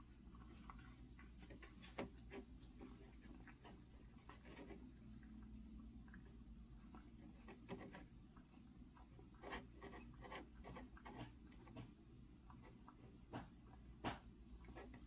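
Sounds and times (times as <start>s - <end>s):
cat eating: 0.0s - 15.0s
low room hum: 0.0s - 15.0s.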